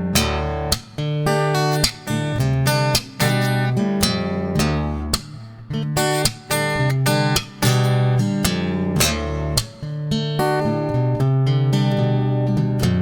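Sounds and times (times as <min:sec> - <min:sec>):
strummed acoustic guitar music: 0:00.0 - 0:13.0.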